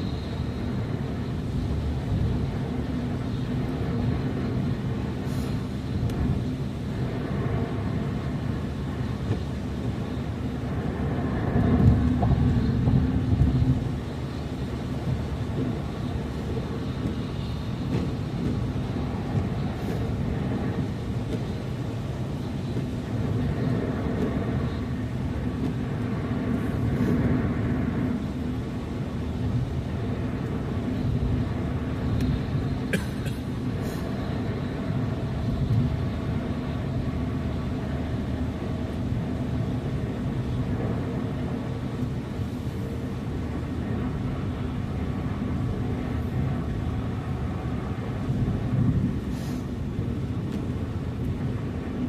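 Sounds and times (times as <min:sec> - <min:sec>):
car engine hum: 0:00.0 - 0:52.0
road noise: 0:00.0 - 0:52.0.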